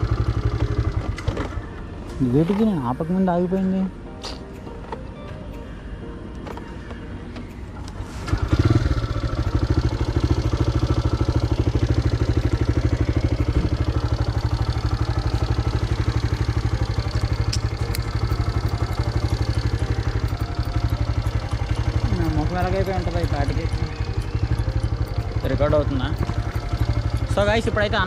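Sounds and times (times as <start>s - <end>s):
motorcycle engine starting and idling: 0.0s - 5.2s, 6.3s - 28.0s.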